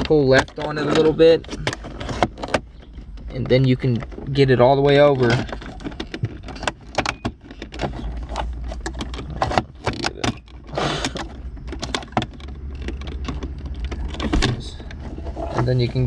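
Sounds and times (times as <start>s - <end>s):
shift lever jiggling: 0.0s - 16.0s.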